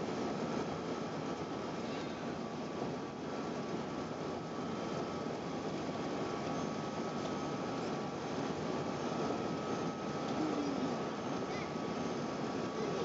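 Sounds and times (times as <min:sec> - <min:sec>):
aircraft cabin engine rush: 0:00.0 - 0:13.0
faint steady tones: 0:00.0 - 0:13.0.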